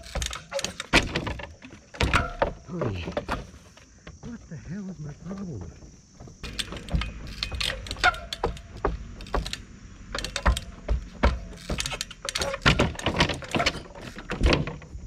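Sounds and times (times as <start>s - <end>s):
bike rattling: 0.0s - 3.8s, 6.2s - 15.0s
bike tyres knocking on boards: 0.0s - 4.4s, 6.2s - 15.0s.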